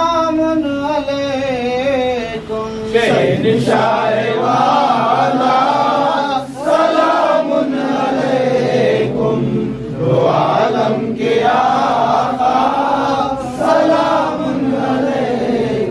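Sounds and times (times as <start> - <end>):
men chanting together: 2.8 - 15.9.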